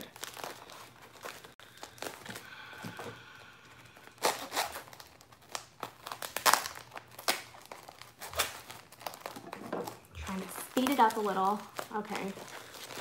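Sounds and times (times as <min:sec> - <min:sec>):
paper wrapping crinkling and tearing: 0:00.0 - 0:02.6, 0:04.0 - 0:13.0.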